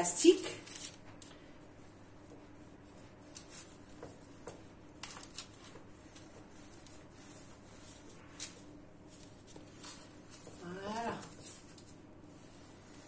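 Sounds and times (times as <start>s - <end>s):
baking paper rustling: 0.0s - 13.0s.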